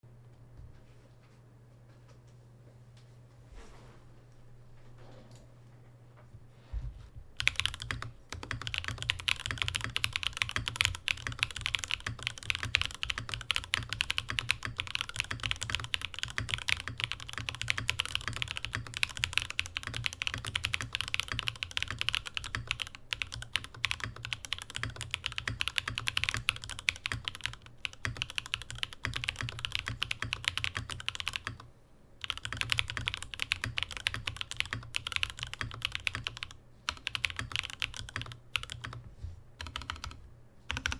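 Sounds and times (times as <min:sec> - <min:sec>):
mechanical keyboard typing: 0:07.4 - 0:39.0, 0:39.6 - 0:40.9.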